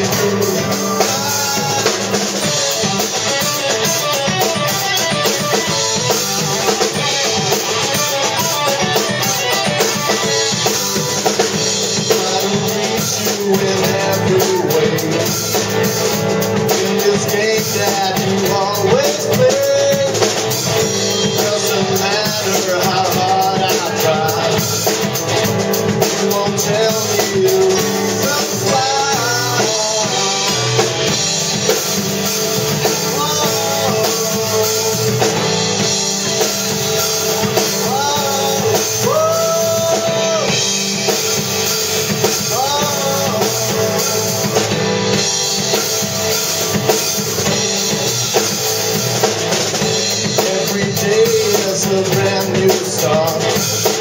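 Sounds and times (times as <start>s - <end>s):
man singing lead vocal: 0.0s - 48.0s, 49.8s - 54.0s
drum kit: 0.0s - 54.0s
electric bass: 0.0s - 54.0s
electric guitar: 0.0s - 54.0s
stage keyboard: 0.0s - 54.0s.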